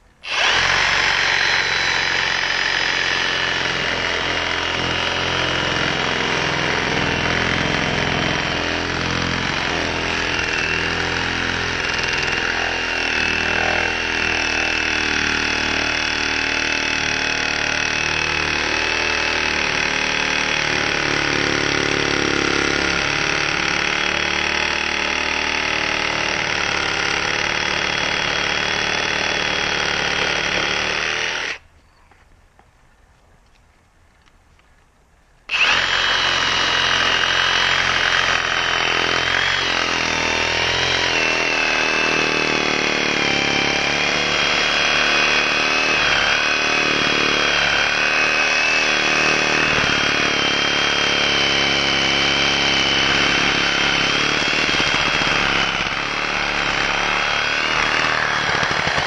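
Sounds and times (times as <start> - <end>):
reciprocating saw cutting wood: 0.0 - 31.6, 35.5 - 59.0.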